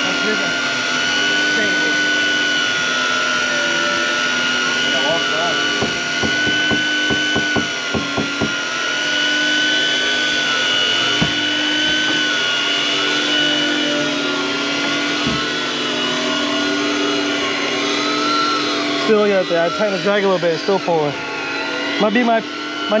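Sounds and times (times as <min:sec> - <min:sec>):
motor whining: 0:00.0 - 0:23.0.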